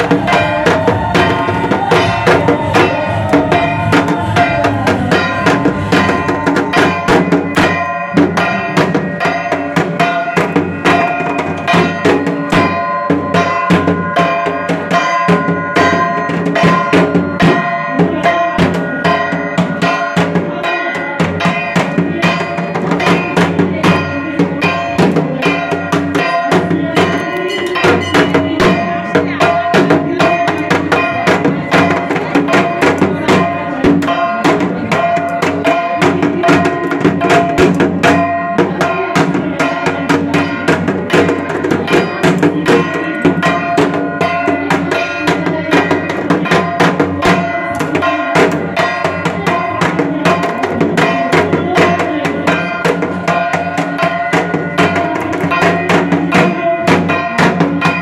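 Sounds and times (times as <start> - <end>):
fast barrel drumming with sticks: 0.0 - 58.0
ringing metal percussion: 0.0 - 58.0.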